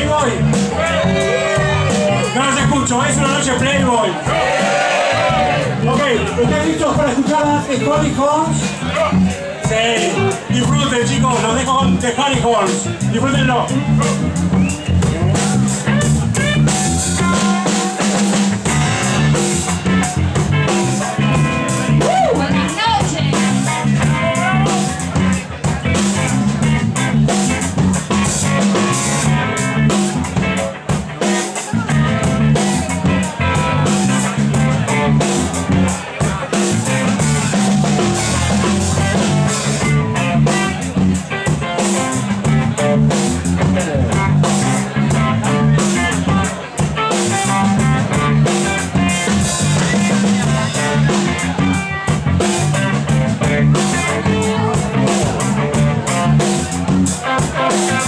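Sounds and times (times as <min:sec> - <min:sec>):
driving drum kit: 0:00.0 - 0:58.0
electric guitar: 0:00.0 - 0:58.0
rock band playing live: 0:00.0 - 0:58.0.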